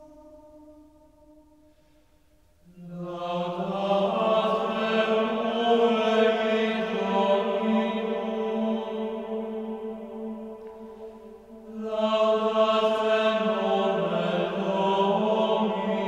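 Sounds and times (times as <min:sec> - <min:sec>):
chant-like voices holding low note: 0:00.0 - 0:01.8, 0:02.6 - 0:16.0.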